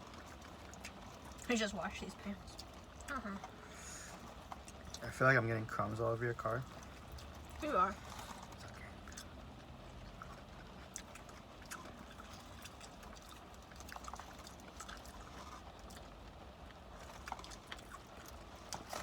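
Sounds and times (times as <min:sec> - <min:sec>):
chewing and crunching food: 0:00.0 - 0:19.0
small clicks and crackles: 0:00.0 - 0:19.0.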